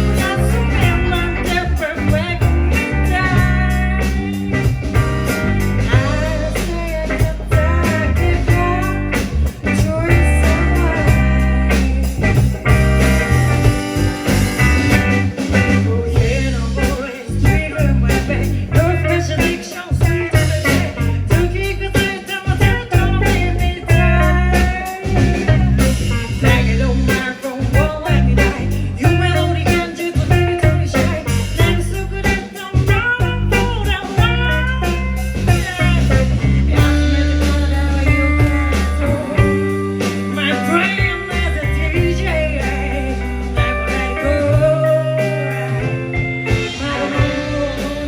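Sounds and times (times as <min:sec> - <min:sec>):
bass line: 0:00.0 - 0:48.0
drums keeping a steady beat: 0:00.0 - 0:48.0
guitar: 0:00.0 - 0:48.0
person singing: 0:00.0 - 0:48.0.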